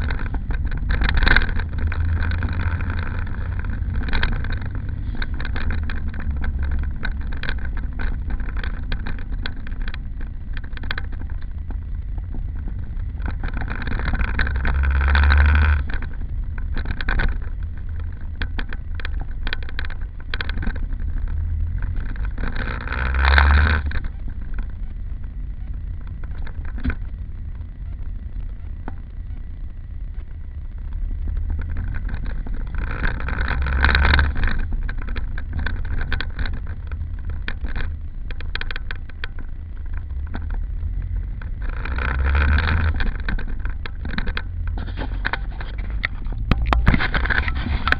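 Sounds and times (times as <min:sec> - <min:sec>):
car engine droning: 0:00.0 - 0:47.9
scattered clicks: 0:00.0 - 0:47.9.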